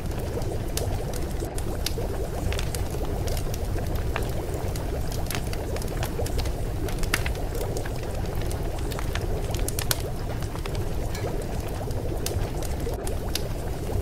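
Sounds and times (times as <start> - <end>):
bubbling water-like noise: 0.0 - 14.0.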